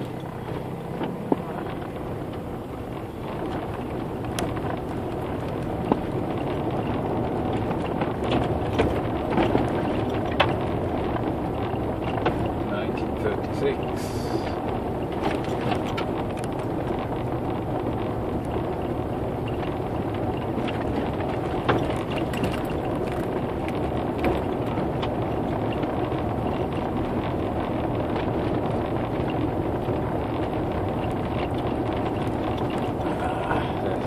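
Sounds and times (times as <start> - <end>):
car driving road noise: 0.0 - 34.0
light knocks from bumps: 0.0 - 34.0.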